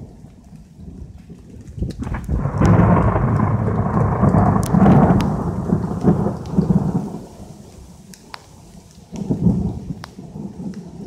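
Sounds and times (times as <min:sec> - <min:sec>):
rain: 0:00.0 - 0:11.0
raindrop ticks: 0:00.0 - 0:11.0
thunder rumbling: 0:00.0 - 0:11.0.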